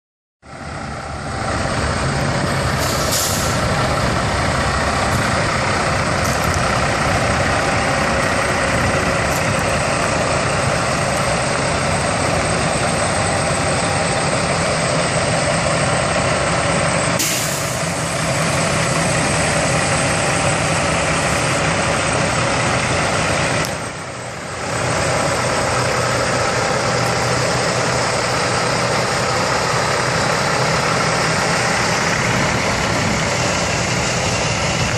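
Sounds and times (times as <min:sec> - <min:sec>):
diesel engine idling: 0:00.4 - 0:34.9.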